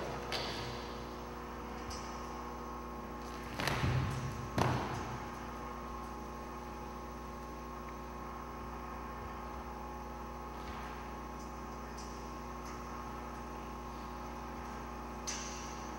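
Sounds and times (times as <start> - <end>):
steady electrical hum: 0.0 - 15.9.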